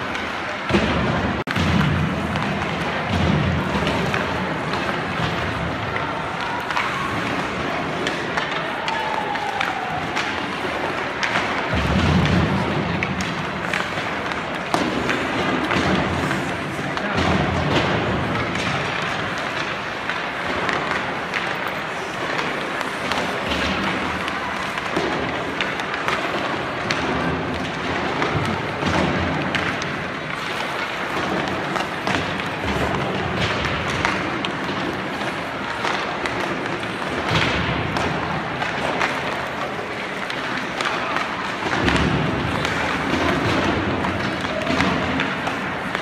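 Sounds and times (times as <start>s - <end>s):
skates scraping on ice: 0.0s - 46.0s
sticks and pucks knocking: 0.0s - 46.0s.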